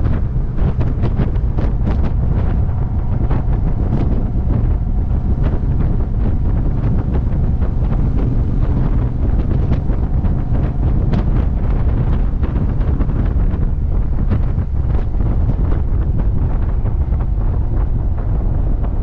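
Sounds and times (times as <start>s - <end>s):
gusty crackles: 0.0s - 19.0s
wind buffeting microphone: 0.0s - 19.0s.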